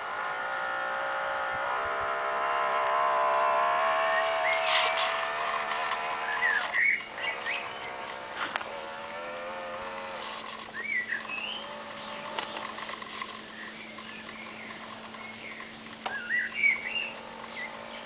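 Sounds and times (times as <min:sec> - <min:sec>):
birds chirping: 0:00.0 - 0:18.0
small electric motor whining: 0:00.0 - 0:18.0.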